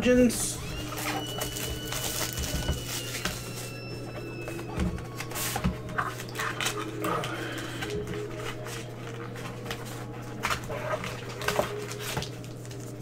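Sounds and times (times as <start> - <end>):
card packs rustling and crinkling: 0.1 - 13.0.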